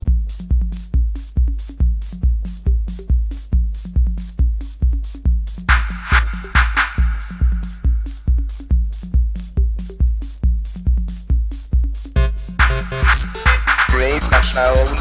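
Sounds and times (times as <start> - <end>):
hi-hats: 0.0 - 15.0
rave music kick drum: 0.0 - 15.0.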